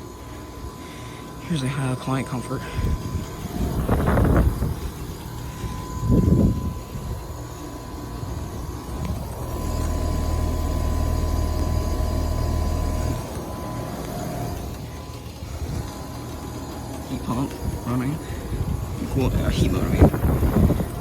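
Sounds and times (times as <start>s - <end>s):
faint high whine: 0.0s - 21.0s
heat pump compressor and fan hum: 0.0s - 21.0s.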